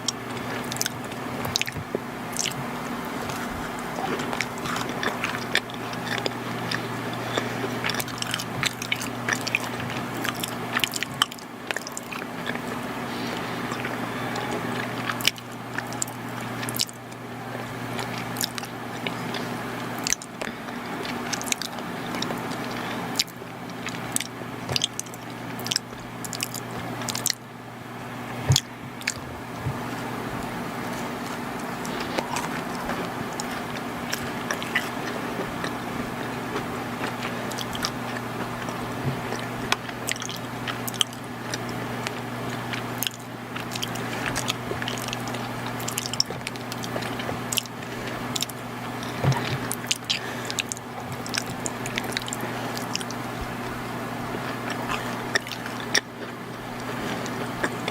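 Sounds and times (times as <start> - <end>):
sticky mouth clicks: 0.0 - 27.4, 28.4 - 53.8, 54.4 - 57.9
close chewing of cookies: 0.0 - 57.9
steady low hum: 0.0 - 57.9.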